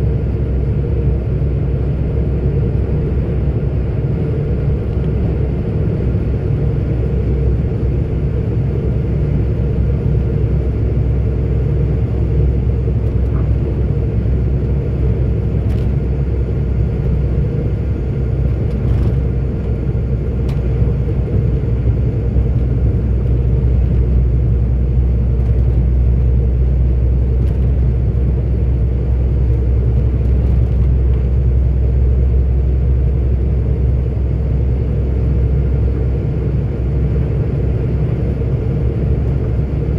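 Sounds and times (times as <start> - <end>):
truck diesel engine drone: 0.0 - 39.9
tyres on road: 0.0 - 39.9.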